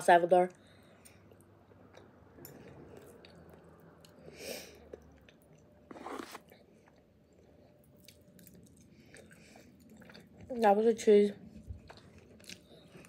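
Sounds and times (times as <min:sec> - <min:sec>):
person chewing food: 0:00.8 - 0:10.6, 0:11.5 - 0:13.0.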